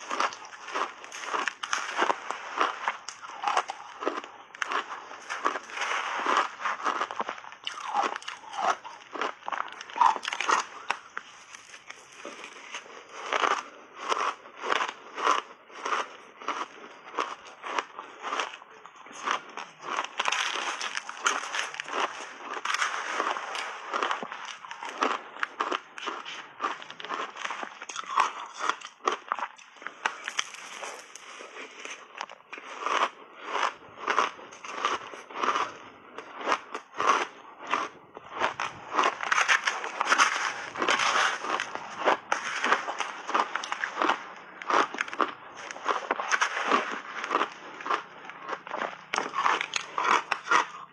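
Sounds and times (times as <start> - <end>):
crunching shaved ice: 0.0 - 50.9.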